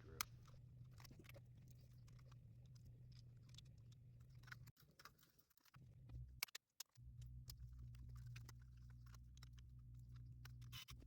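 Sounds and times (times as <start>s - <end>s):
faint small clicks and taps: 0.2s - 11.0s.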